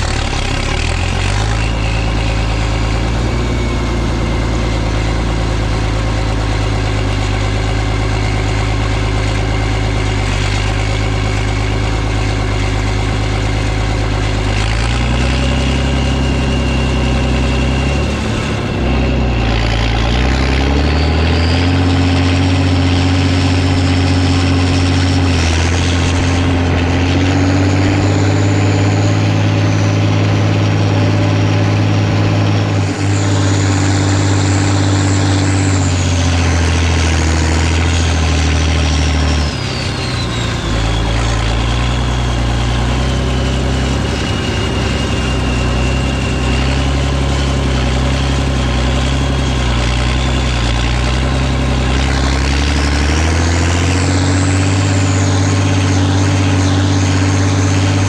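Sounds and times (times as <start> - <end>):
diesel engine running: 0.0 - 58.0
high whine: 0.0 - 58.0.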